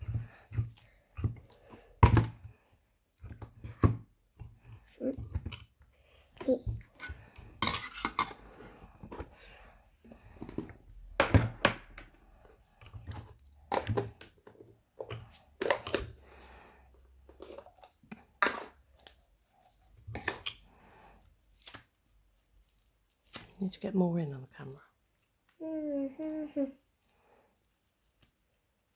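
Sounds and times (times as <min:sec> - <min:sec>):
slime squishing with wet crackles: 0:00.0 - 0:11.2, 0:12.2 - 0:28.9.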